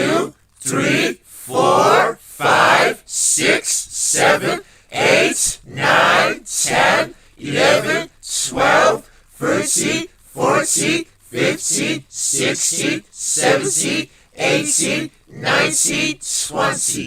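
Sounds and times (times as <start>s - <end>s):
person counting in sing-song voice: 0.0s - 17.0s.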